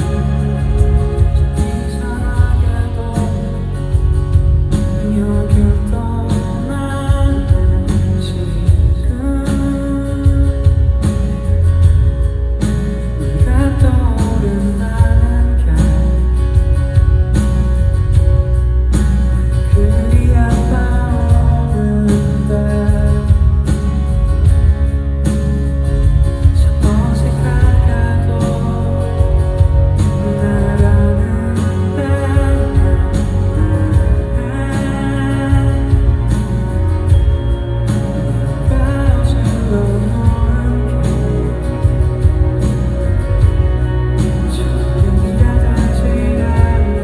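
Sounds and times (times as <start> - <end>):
man singing: 0.0 - 12.2, 13.2 - 17.6, 19.4 - 24.9, 26.3 - 47.0
guitar: 0.0 - 47.0
live band music: 0.0 - 47.0
steady low beat: 0.0 - 47.0.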